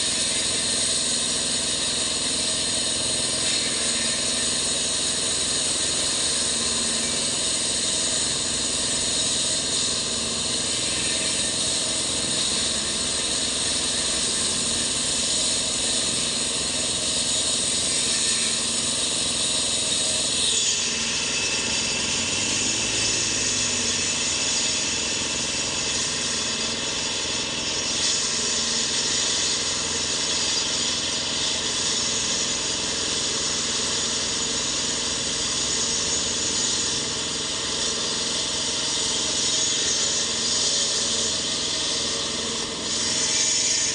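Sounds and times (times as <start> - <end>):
concrete cutter engine: 0.0 - 43.9.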